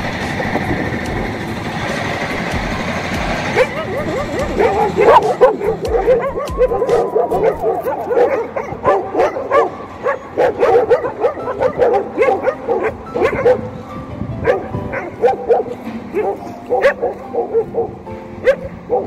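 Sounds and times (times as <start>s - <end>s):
dogs yipping and whining: 3.4s - 19.0s.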